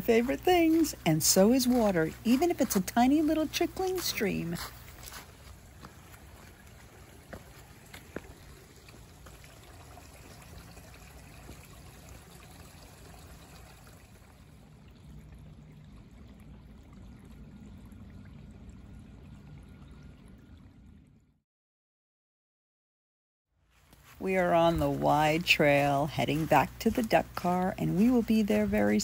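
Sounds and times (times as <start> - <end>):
stream trickling over stones: 0.0 - 21.2, 23.8 - 29.0.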